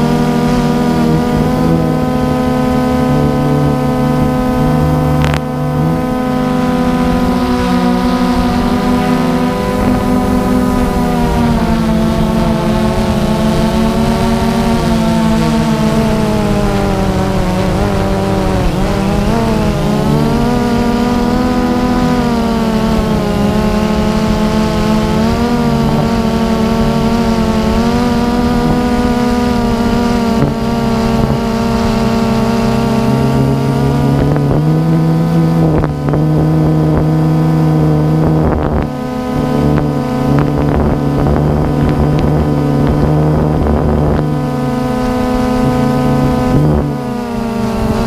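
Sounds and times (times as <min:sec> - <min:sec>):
drone propellers buzzing: 0:00.0 - 0:48.0.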